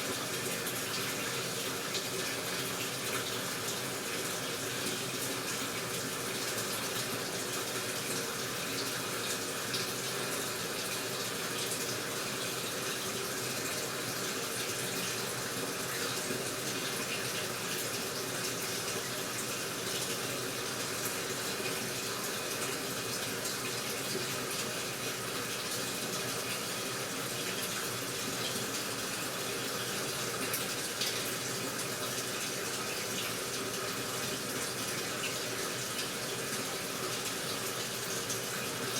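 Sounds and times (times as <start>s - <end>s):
washing machine filling with water: 0.0s - 38.9s.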